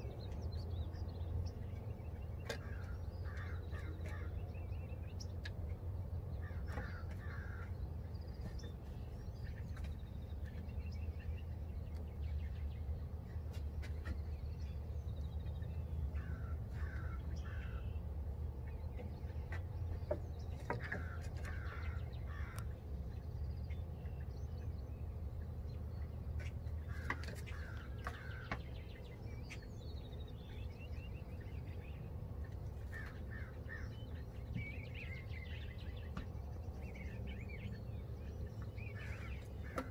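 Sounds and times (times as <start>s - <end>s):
harsh bird calls: 0.0s - 39.9s.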